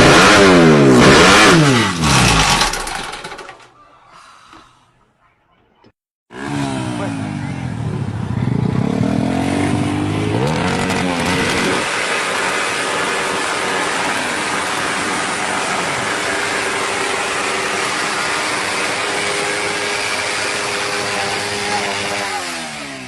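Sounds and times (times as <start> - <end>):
drag racing engine revving: 0.0 - 3.5, 6.3 - 23.0.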